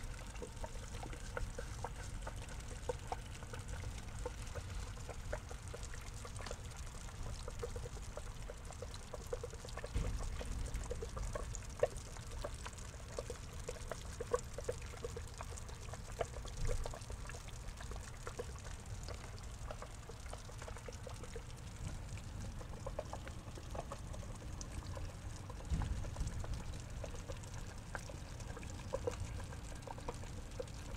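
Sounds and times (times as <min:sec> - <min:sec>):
low steady rumble: 0:00.0 - 0:30.9
water trickling into pond: 0:00.0 - 0:30.9.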